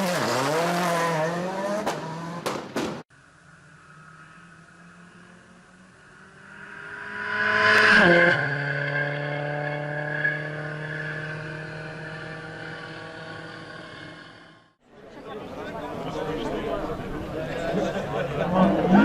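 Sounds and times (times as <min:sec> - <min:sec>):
rally car engine passing: 0:00.0 - 0:02.5, 0:03.2 - 0:14.6, 0:15.5 - 0:19.0.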